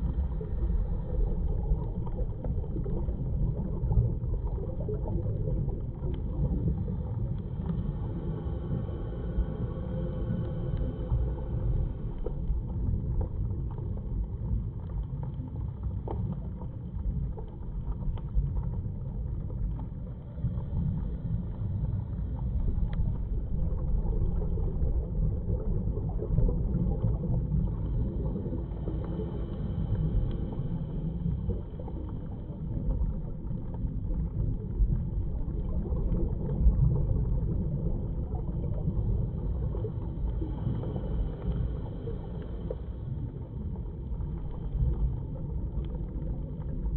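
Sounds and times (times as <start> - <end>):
low underwater rumble: 0.0 - 46.9.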